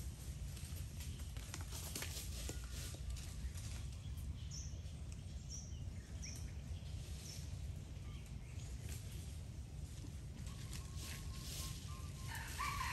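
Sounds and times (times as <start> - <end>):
low outdoor rumble: 0.0 - 12.9.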